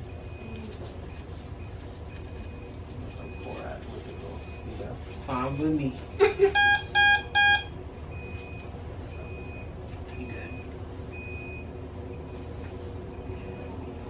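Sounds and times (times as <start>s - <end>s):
loud multi-tone alarm beeps: 0.0s - 4.6s, 5.3s - 12.5s.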